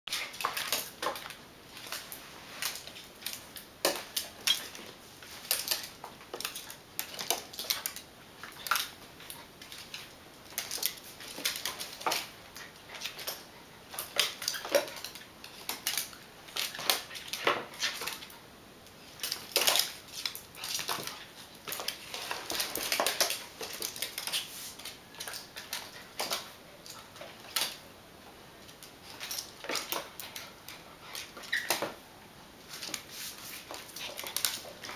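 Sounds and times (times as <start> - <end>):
dog claws clicking on wooden floor: 0.1 - 18.4, 19.2 - 27.8, 28.6 - 32.0, 32.7 - 34.9.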